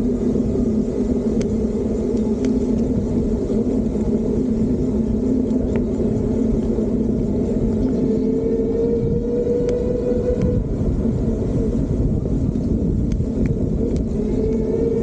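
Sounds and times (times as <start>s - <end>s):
electric bike motor hum: 0.0s - 15.0s
wind and tyre rumble: 0.0s - 15.0s.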